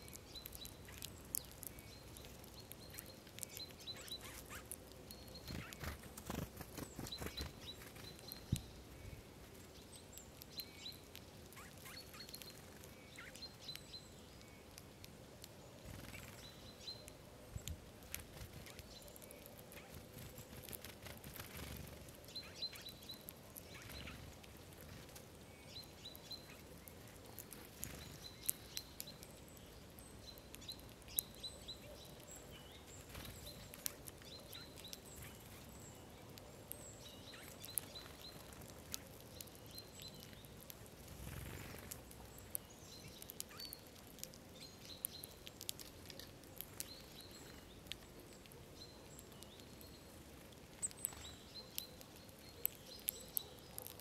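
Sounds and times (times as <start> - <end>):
birds cracking seeds: 0.0 - 54.0.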